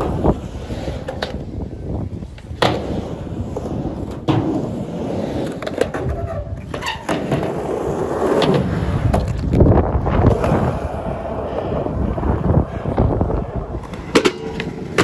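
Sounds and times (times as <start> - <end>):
skateboard clacks: 0.0 - 15.0
skateboard wheel rumble: 0.0 - 15.0.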